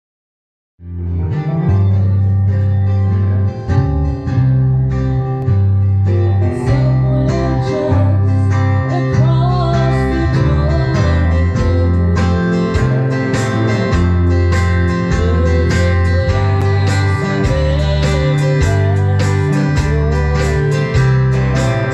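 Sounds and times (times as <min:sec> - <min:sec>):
electric guitar: 0:00.8 - 0:21.9
low bass line: 0:00.8 - 0:21.9
drum kit: 0:01.3 - 0:21.9.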